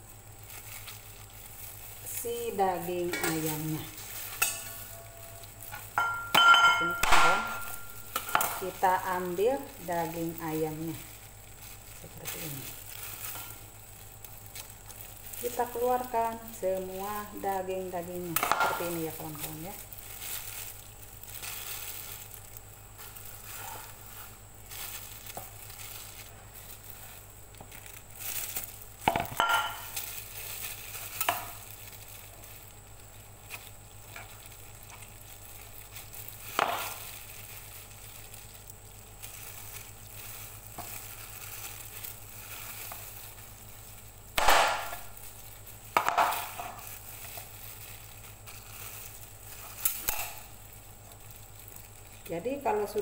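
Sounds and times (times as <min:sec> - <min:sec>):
plastic gloves crinkling: 0:00.0 - 0:53.0
sharp crackles or knocks: 0:00.5 - 0:17.2, 0:18.2 - 0:32.7, 0:33.4 - 0:50.6.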